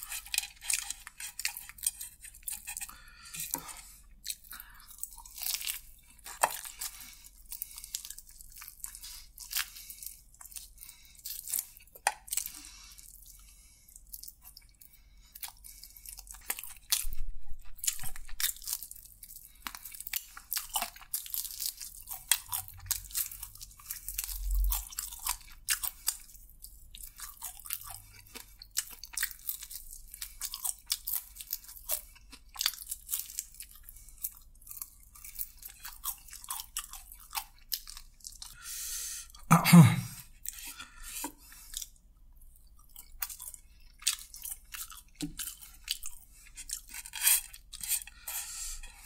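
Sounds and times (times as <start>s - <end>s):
crunchy chewing: 0.0s - 39.4s, 40.2s - 49.0s.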